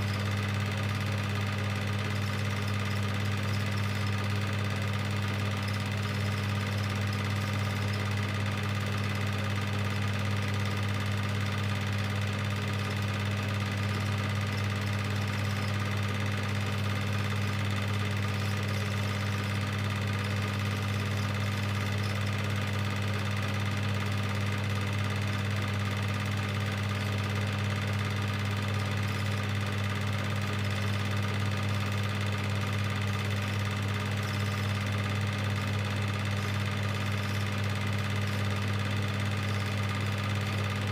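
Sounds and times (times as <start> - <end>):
film projector humming: 0.0 - 40.9.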